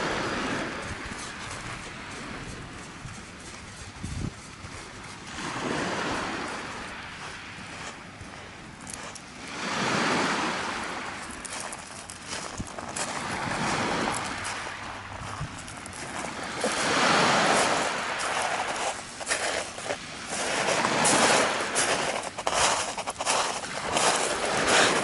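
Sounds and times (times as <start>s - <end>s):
small waves on pebble beach: 0.0s - 25.0s
footsteps crunching on pebbles: 0.8s - 10.2s, 11.0s - 25.0s.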